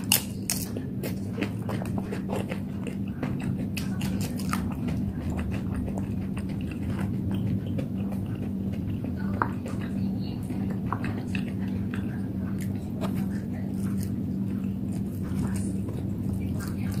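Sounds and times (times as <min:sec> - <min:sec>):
person chewing with wet smacks: 0:00.0 - 0:17.0
steady low hum: 0:00.0 - 0:17.0.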